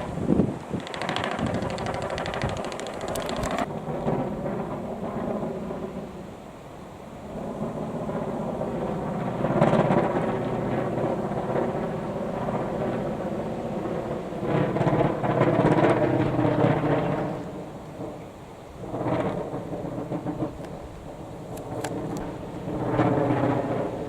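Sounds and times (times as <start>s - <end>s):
gusty wind buffeting microphone: 0.0s - 24.0s.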